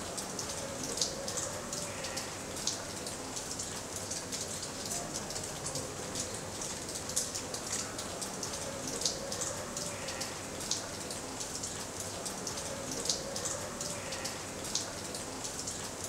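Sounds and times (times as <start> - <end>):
liquid dripping onto concrete: 0.0 - 16.0.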